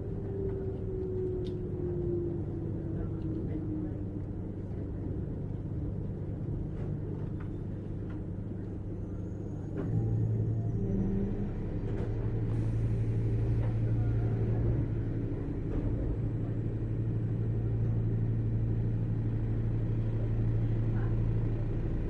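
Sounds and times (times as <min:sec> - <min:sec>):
strong low hum: 0:00.0 - 0:22.0
train wheels rumbling on rail: 0:00.0 - 0:22.0.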